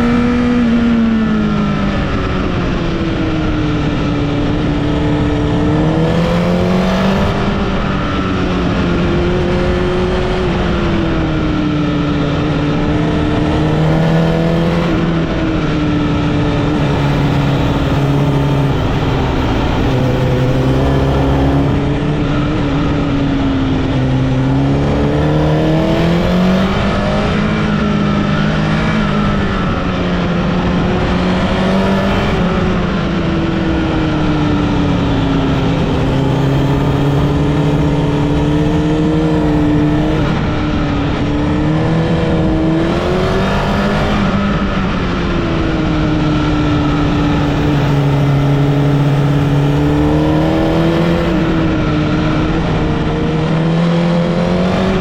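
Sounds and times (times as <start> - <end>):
motorcycle engine accelerating: 0.0 - 55.0
wind and road rush: 0.0 - 55.0.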